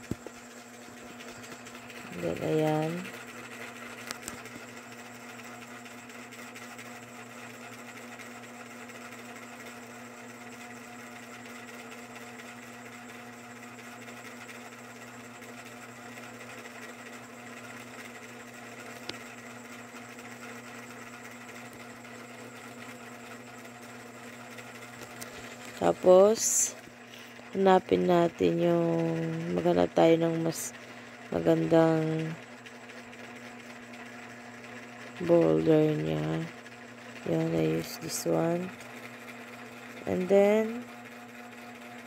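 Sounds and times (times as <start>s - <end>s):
mechanical hum: 0.0s - 42.0s.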